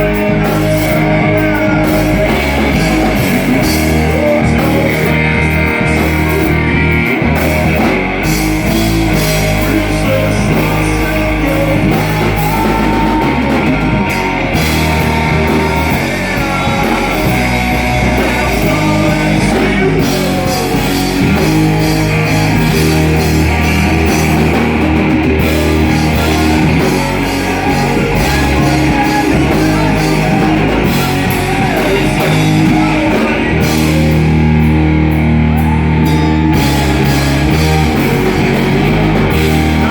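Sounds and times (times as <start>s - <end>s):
live heavy rock band playing: 0.0s - 39.9s.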